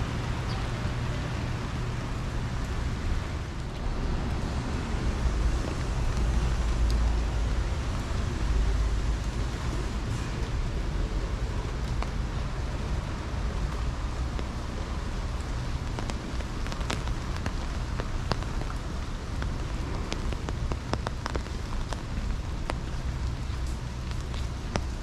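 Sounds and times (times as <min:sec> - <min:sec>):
raindrops ticking close by: 0:00.0 - 0:25.0
steady rain: 0:00.0 - 0:25.0.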